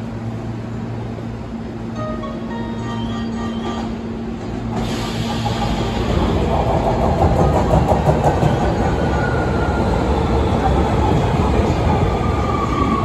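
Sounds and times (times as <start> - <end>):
thin whine of slowing train: 0.0 - 13.0
train wheels and motors rumbling: 0.0 - 13.0.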